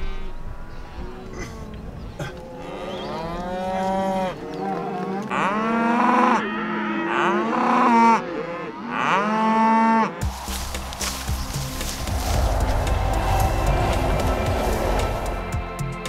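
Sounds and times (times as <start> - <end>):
cows mooing: 0.0 - 15.5.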